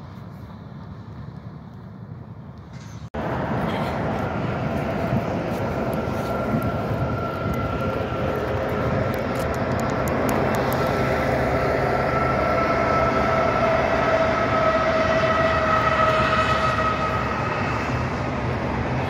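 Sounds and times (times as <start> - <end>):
diesel locomotive drone and whine: 0.0 - 19.0.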